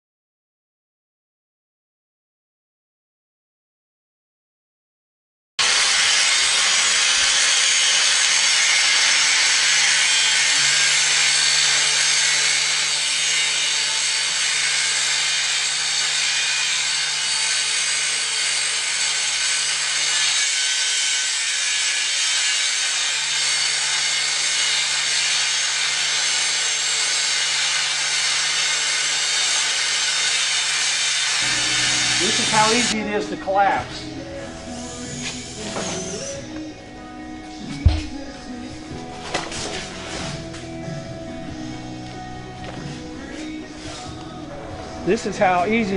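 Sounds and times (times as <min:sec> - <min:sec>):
angle grinder grinding metal: 0:05.6 - 0:45.9.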